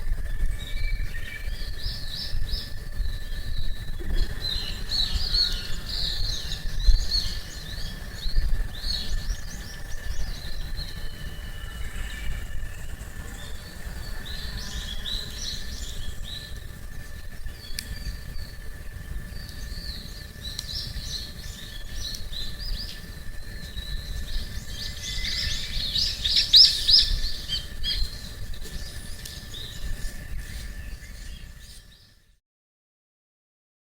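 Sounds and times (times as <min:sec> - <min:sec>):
low steady rumble: 0:00.0 - 0:31.7
small birds chirping: 0:00.1 - 0:32.3.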